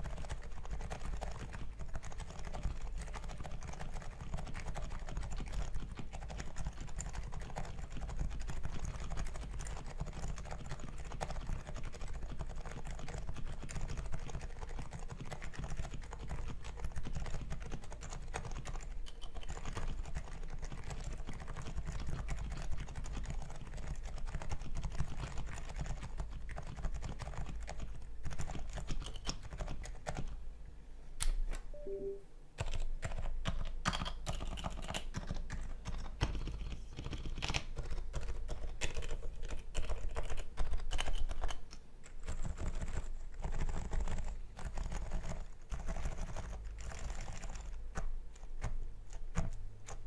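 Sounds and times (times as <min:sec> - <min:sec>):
keyboard typing: 0:00.0 - 0:30.4, 0:31.8 - 0:50.0.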